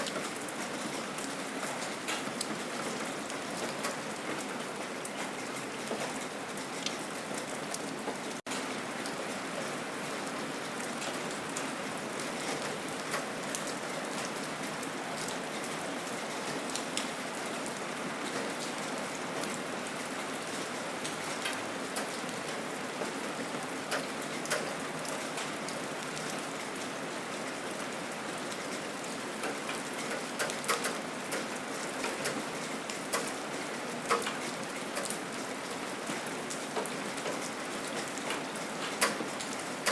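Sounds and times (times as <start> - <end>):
steady gentle rain: 0.0 - 39.9.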